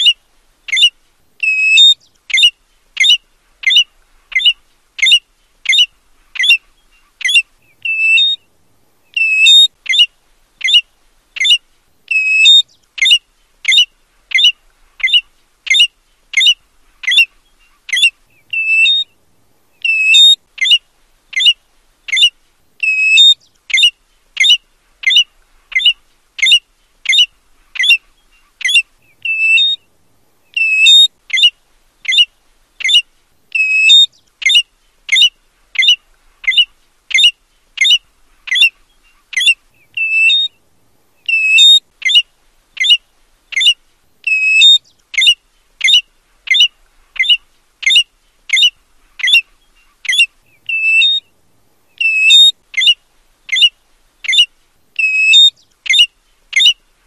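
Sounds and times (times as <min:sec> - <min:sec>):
plover whistled calls: 0:00.0 - 0:08.4, 0:09.1 - 0:19.1, 0:19.8 - 0:29.8, 0:30.5 - 0:40.6, 0:41.2 - 0:51.3, 0:52.0 - 0:56.8.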